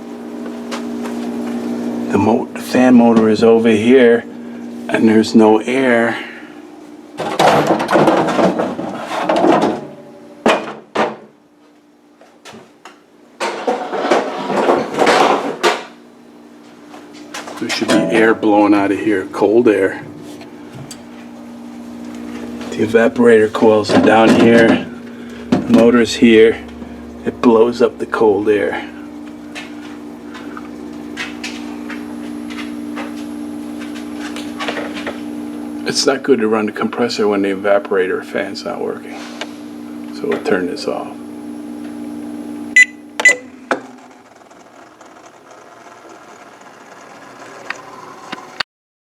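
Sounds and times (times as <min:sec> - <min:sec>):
refrigerator compressor hum: 0:00.0 - 0:48.6.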